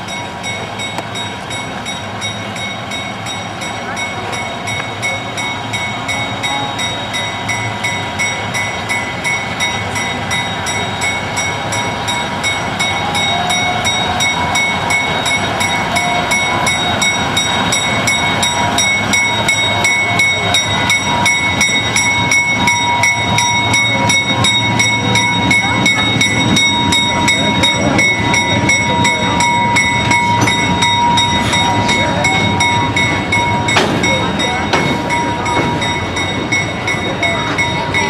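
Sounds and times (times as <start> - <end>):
diesel locomotive engine running: 0.0 - 38.0
regular train wheel clicking: 0.1 - 38.0.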